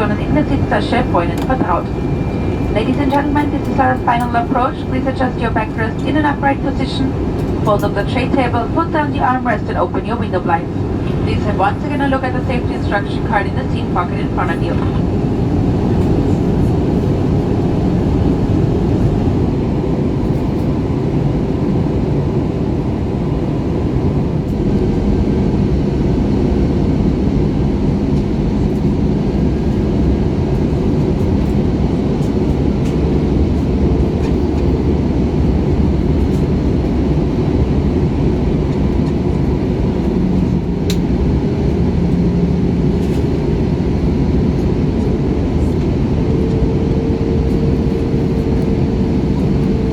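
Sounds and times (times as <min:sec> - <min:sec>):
faint hum: 0:00.0 - 0:22.0, 0:22.9 - 0:49.9
aircraft engines and rushing air: 0:00.0 - 0:49.9.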